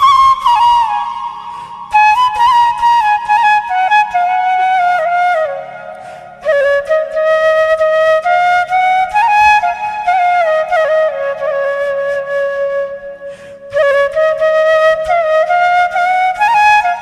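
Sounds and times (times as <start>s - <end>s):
flute playing slow melody: 0.0s - 17.0s
soft steady accompaniment: 0.0s - 17.0s.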